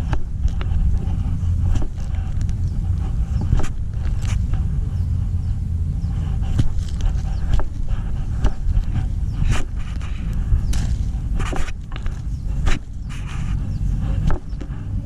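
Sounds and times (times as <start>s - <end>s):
crunching footsteps: 0.0s - 4.9s, 5.5s - 14.8s
wind on microphone: 0.0s - 15.0s.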